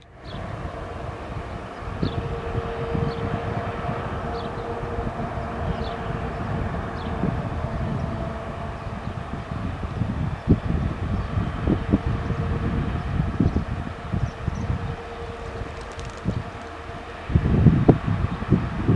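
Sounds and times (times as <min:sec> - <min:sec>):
diesel locomotive engine rumbling: 0:00.0 - 0:18.9.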